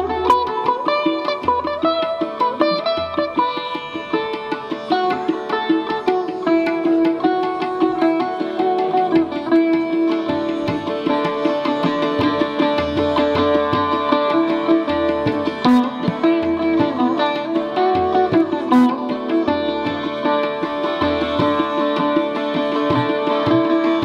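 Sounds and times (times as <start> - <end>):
sitar melody: 0.0 - 24.0.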